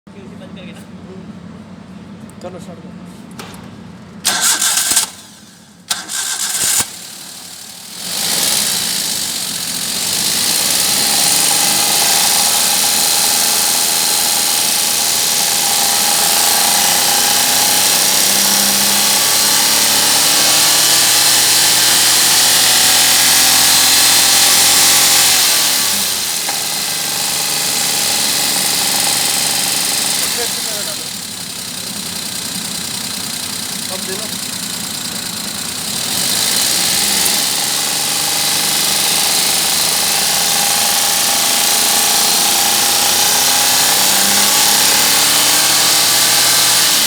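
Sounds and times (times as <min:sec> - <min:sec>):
car engine cranking: 0:03.3 - 0:47.0
car engine running and revving: 0:04.2 - 0:47.0.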